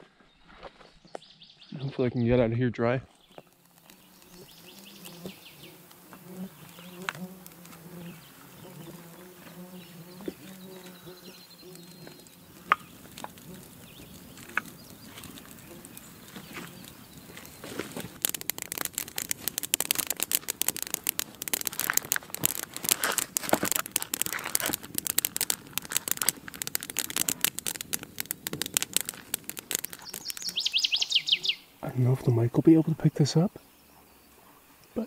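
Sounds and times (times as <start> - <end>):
campfire crackling: 3.1 - 33.4.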